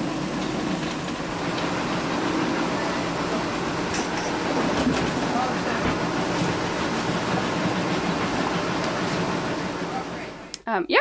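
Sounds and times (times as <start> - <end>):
rumbling boat cabin noise: 0.0 - 10.4.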